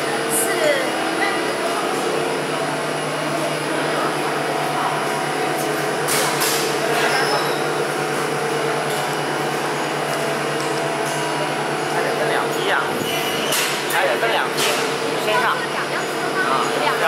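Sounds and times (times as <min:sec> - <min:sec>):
lift machinery humming: 0:00.0 - 0:17.0.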